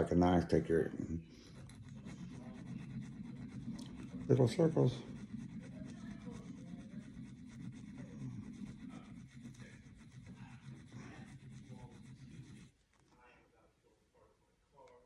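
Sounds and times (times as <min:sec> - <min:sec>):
low steady hum: 0:00.0 - 0:13.1.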